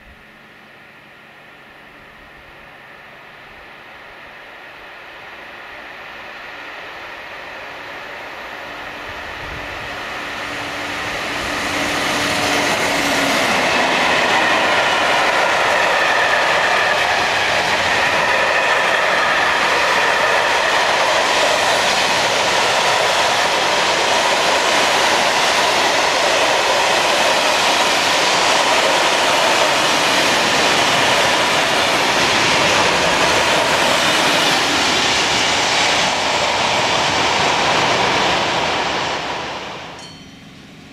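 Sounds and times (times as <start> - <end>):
train wheels rolling on rails: 1.6 - 40.9.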